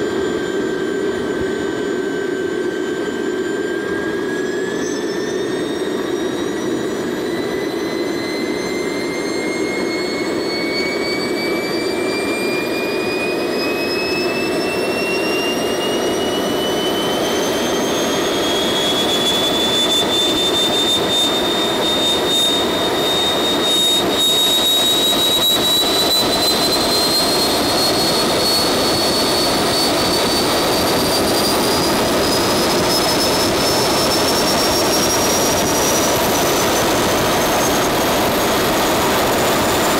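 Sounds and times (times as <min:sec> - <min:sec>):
turbine jet engine spooling up: 0:00.0 - 0:39.9.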